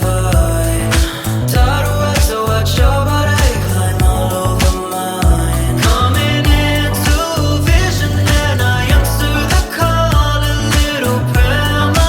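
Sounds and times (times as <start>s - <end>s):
music with beat and bass: 0.0s - 12.0s
person singing: 0.0s - 12.0s.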